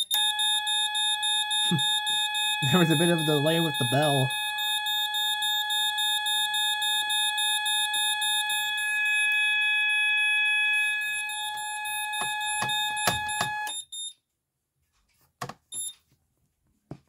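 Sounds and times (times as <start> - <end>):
alarm high-pitched tone: 0.0 - 13.8
rapidly pulsing beep: 0.0 - 13.8.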